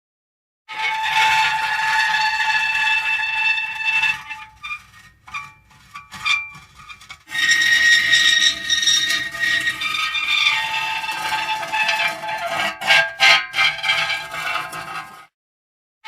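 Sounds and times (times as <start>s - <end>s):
metal creaking squeals: 0.7s - 15.2s.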